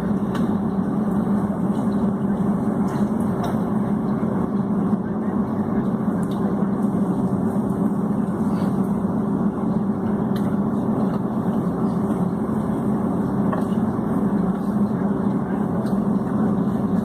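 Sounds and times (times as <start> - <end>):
jet engine cabin hum: 0.0 - 17.0.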